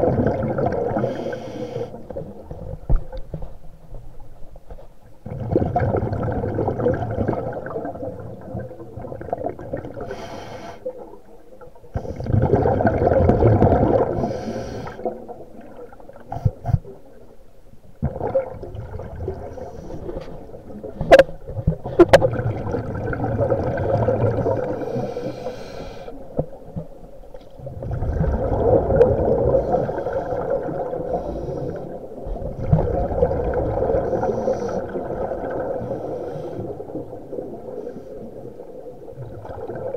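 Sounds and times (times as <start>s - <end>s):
underwater exhaled air bubbling: 0.0s - 3.8s, 5.2s - 39.9s.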